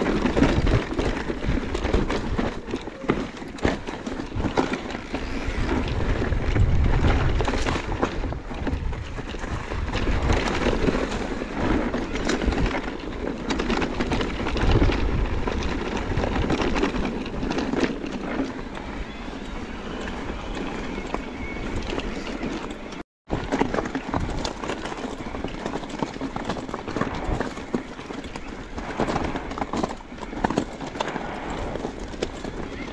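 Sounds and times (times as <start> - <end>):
bike rattling and knocking: 0.0 - 32.9
tyres crunching over gravel: 0.0 - 32.9
wind rumbling on microphone: 0.0 - 32.9.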